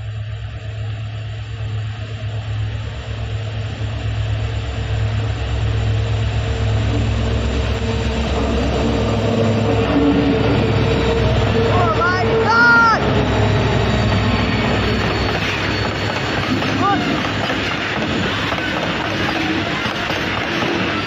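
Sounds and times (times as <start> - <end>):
diesel locomotive engine hum: 0.0 - 21.0.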